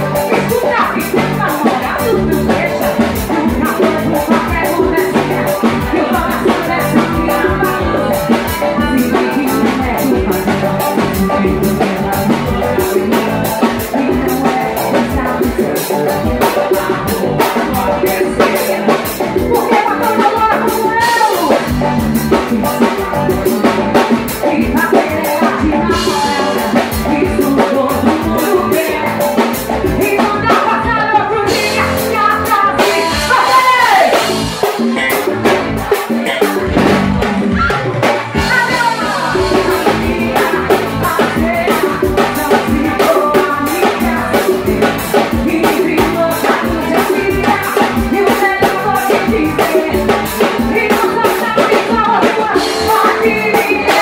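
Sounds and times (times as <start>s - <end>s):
band with accordion and drums: 0.0s - 54.0s
woman singing into a microphone: 0.0s - 54.0s.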